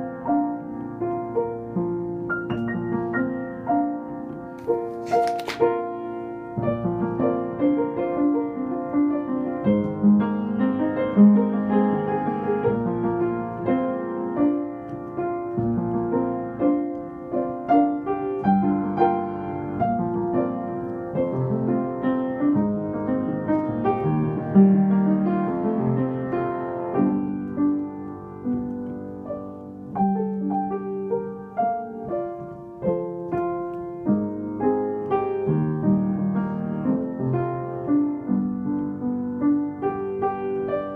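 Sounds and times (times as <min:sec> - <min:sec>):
upright piano playing chords: 0:00.0 - 0:40.9.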